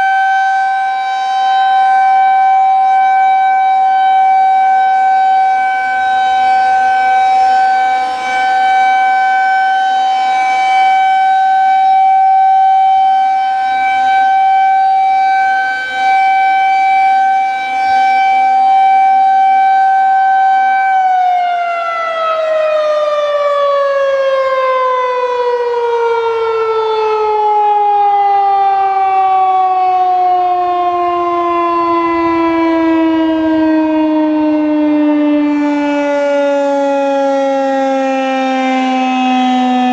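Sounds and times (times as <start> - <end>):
warning siren winding down: 0.0 - 39.9.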